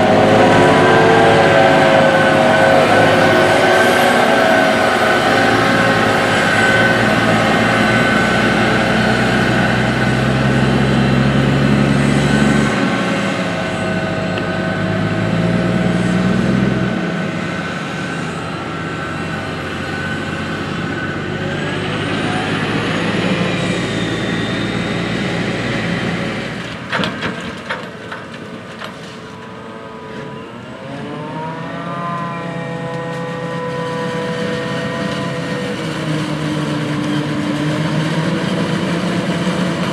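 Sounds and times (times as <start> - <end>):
deep drone: 0.0 - 26.7, 29.3 - 39.9
harvester engine running: 0.0 - 39.9.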